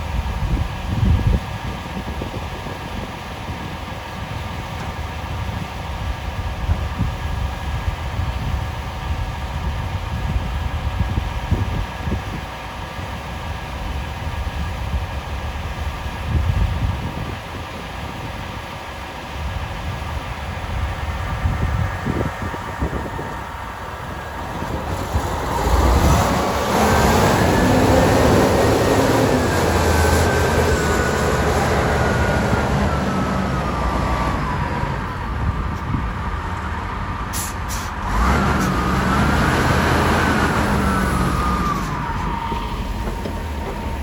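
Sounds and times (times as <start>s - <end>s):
high machine whine: 0.0s - 36.0s
heavy diesel machinery running: 0.0s - 44.0s.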